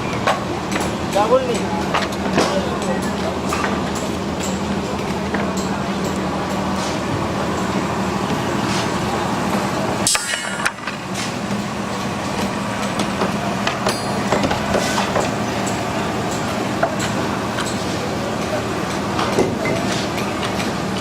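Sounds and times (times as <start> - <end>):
machine engine humming: 0.0 - 21.0.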